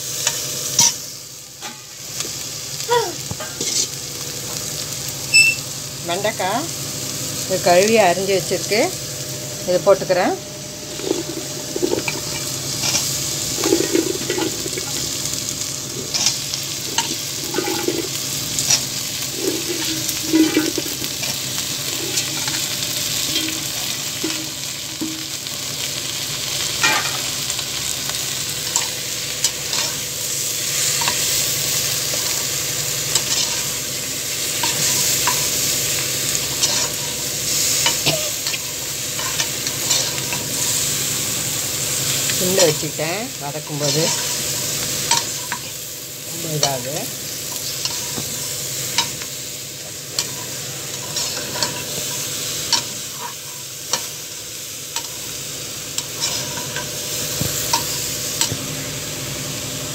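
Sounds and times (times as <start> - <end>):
oil sizzling in a pan: 0.0 - 59.9.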